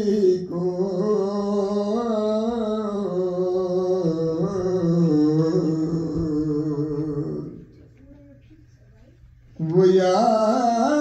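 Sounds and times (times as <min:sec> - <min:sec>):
man chanting a lament: 0:00.0 - 0:07.6, 0:09.6 - 0:11.0.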